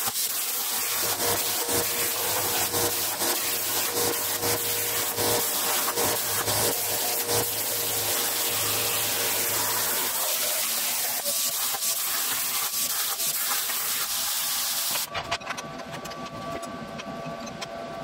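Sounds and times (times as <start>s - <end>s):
plasma torch hissing: 0.0s - 15.1s.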